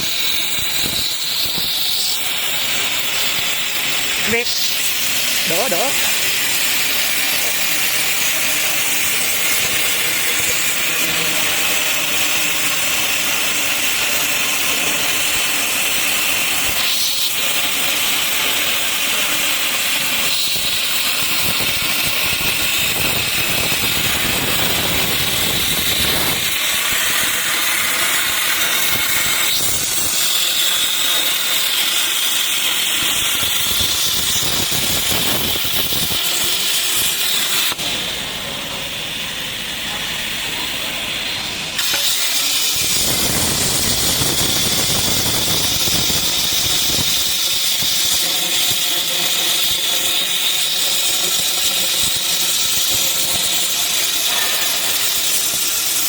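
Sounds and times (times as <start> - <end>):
plasma cutter hissing: 0.0 - 56.0.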